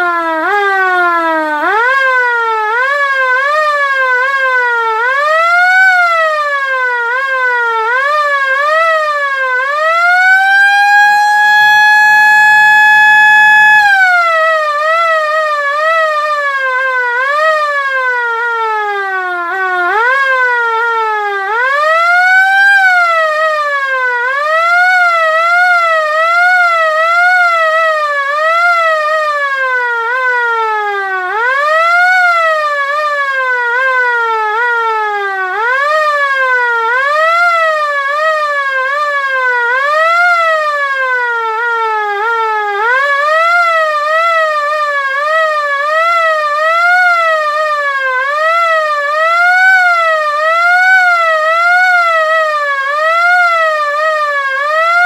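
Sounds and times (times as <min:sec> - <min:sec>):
air raid siren sweeping: 0:00.0 - 0:55.0.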